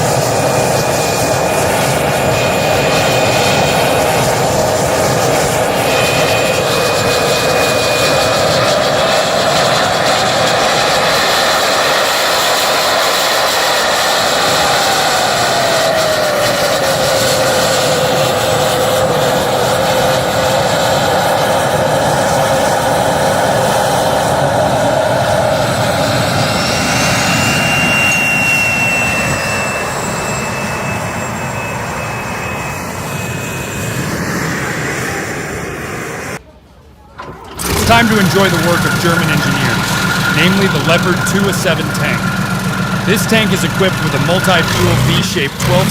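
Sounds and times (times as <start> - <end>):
tank turbine engine whine: 0.0 - 45.9.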